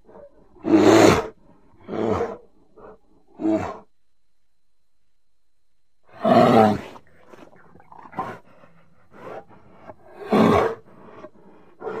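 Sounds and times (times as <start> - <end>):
bear roaring: 0.0 - 3.9, 6.1 - 12.0.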